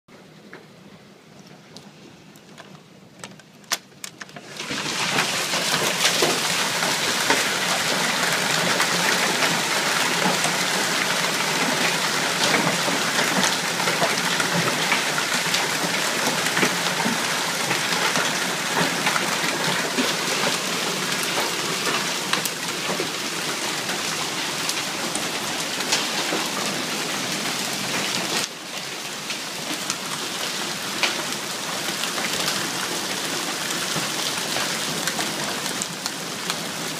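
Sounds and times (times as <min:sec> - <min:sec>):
hailstones clattering: 0:03.6 - 0:36.9.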